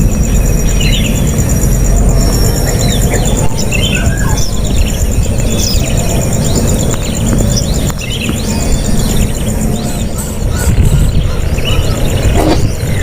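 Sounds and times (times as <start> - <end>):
loud low rumble: 0.0 - 13.0
small birds chirping: 0.0 - 13.0.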